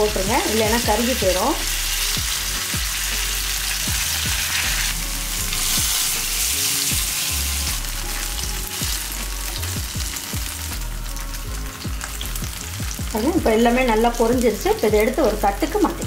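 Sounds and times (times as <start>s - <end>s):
paneer sizzling in oil: 0.0s - 16.0s.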